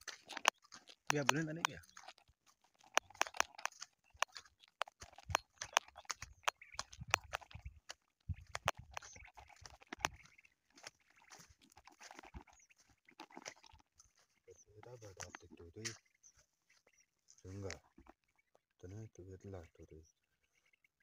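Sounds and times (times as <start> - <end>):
footsteps crunching on stubble: 0.0 - 18.2.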